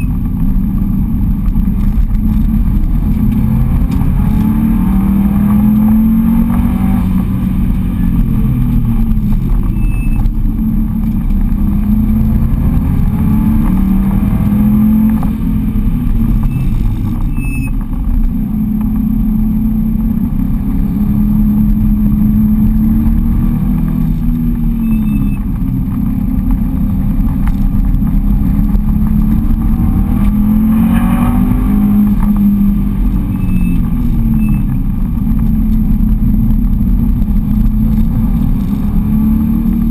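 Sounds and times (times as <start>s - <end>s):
car engine revving: 0.0s - 39.9s
low road rumble: 0.0s - 39.9s.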